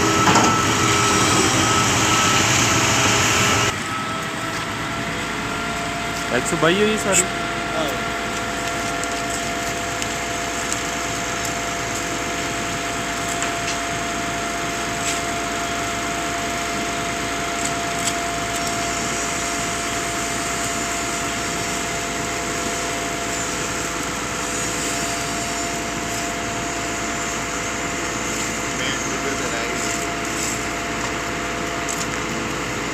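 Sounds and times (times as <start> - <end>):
pump machinery humming: 0.0 - 32.9.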